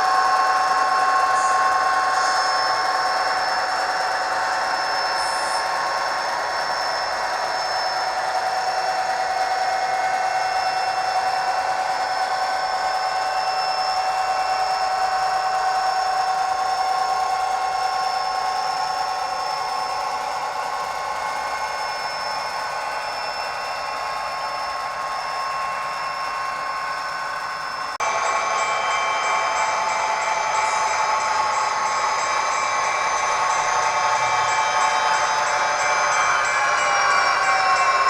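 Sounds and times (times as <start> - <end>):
tinny synthesised diesel engine drone: 0.0 - 18.2, 19.1 - 38.0.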